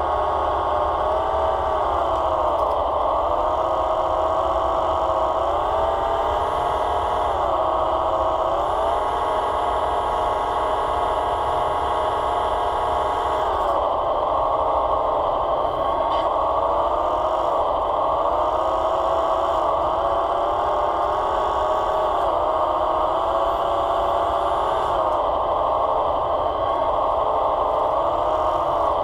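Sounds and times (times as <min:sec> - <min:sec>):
hydraulic pump whining: 0:00.0 - 0:29.0.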